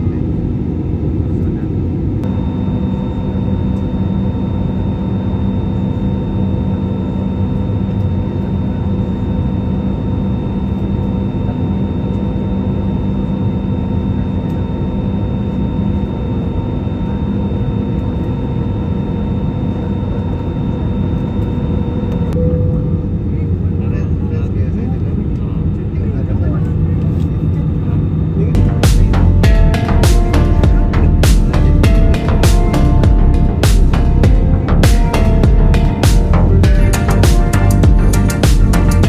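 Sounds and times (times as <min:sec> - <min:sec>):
airliner cabin engine drone: 0:00.0 - 0:39.0
whining tones: 0:02.2 - 0:23.4, 0:28.5 - 0:39.0.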